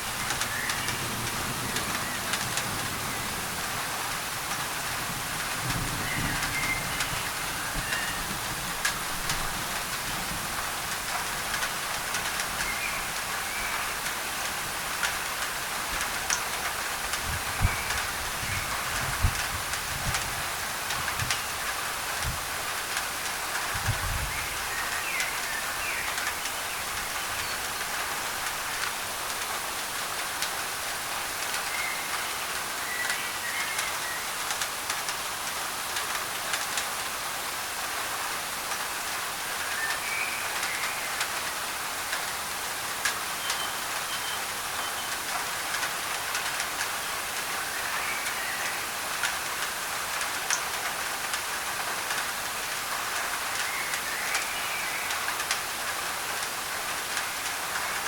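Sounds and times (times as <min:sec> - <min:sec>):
rain on a tin roof: 0:00.0 - 0:58.0
white noise hiss: 0:00.0 - 0:58.0.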